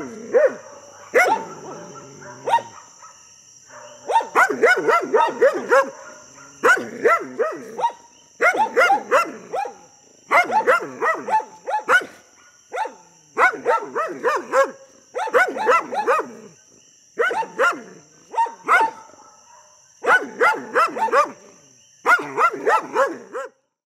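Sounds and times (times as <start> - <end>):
dogs barking: 0.0 - 16.6, 17.2 - 23.6.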